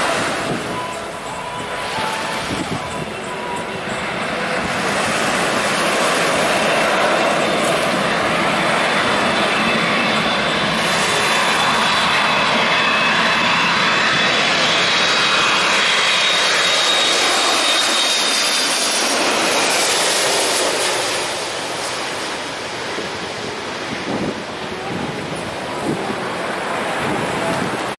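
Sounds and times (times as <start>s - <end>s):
jet airliner engines roaring overhead: 0.0s - 27.9s.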